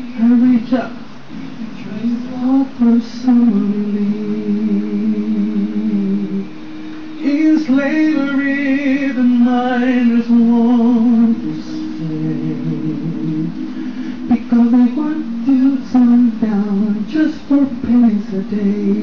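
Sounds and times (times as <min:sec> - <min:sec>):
man singing into a microphone: 0:00.0 - 0:06.4, 0:07.2 - 0:19.0.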